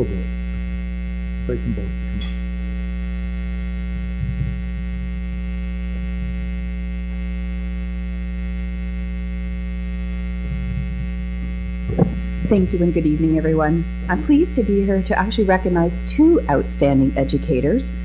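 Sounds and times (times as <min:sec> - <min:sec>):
electrical mains hum and buzz: 0:00.0 - 0:18.0.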